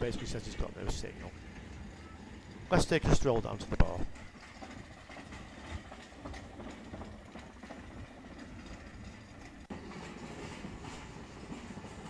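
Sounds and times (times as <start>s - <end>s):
faint street ambience: 0.0s - 12.0s.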